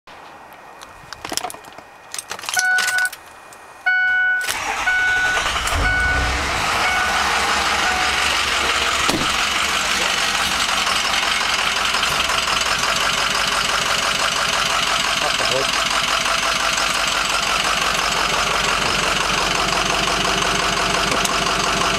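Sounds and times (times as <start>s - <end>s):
truck engine starting and idling: 4.0s - 21.9s.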